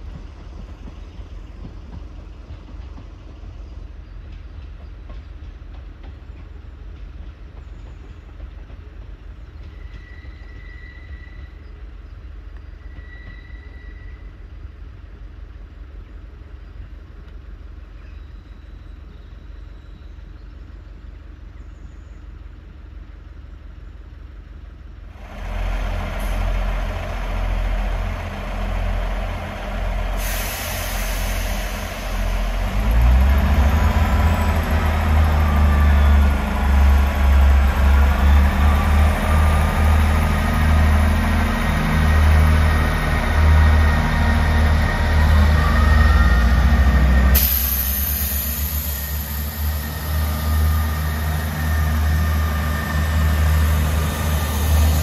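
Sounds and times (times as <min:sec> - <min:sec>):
diesel train engine drone: 0:00.0 - 0:55.0.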